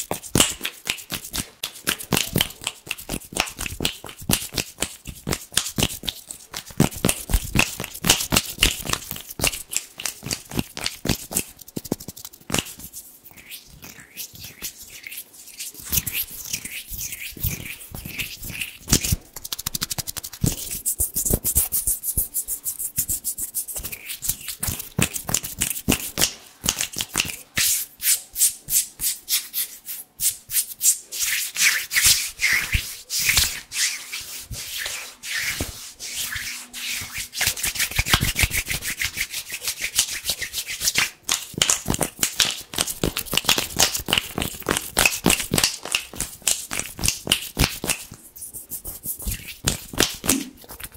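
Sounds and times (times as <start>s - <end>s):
hands rubbing together: 0.0s - 50.9s.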